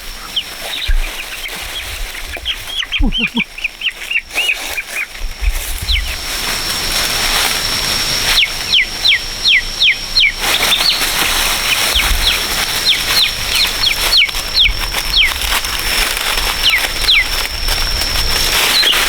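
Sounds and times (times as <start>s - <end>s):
bird peeping: 0.0s - 19.0s
steady high-pitched whine: 0.0s - 19.0s.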